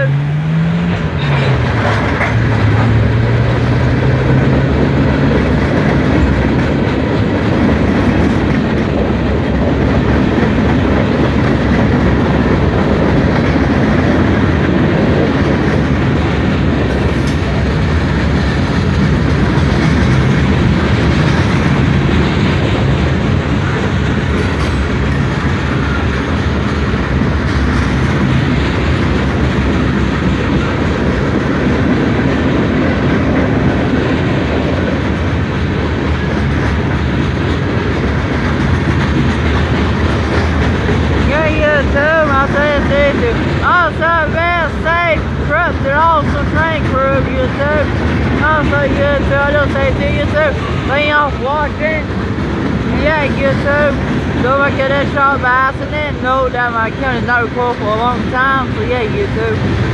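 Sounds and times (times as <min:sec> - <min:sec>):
diesel locomotive engine drone: 0:00.0 - 0:59.9
freight cars rattling: 0:00.0 - 0:59.9
steel wheels on rail: 0:00.0 - 0:59.9.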